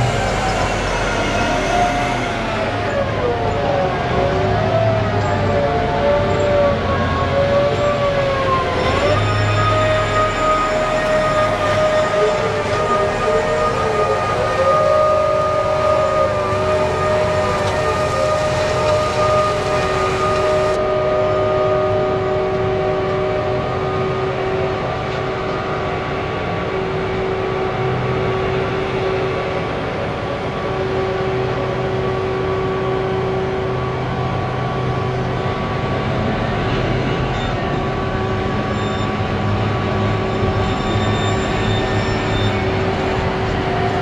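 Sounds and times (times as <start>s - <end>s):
steady machine whine: 0.0s - 5.6s, 7.6s - 44.0s
diesel engine rumbling: 0.0s - 44.0s.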